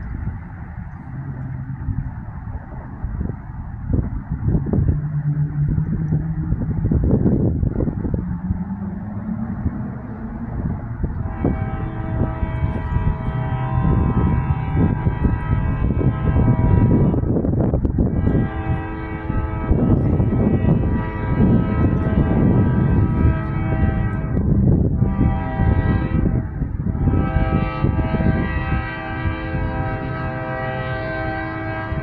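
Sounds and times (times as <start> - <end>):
low rumble of passing train: 0.0 - 32.0
locomotive air horn chords: 0.1 - 32.0.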